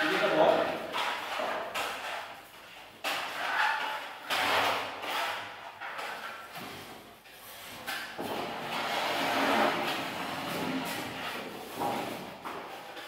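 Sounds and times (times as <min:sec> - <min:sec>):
trowel scraping wall: 0:00.0 - 0:13.0.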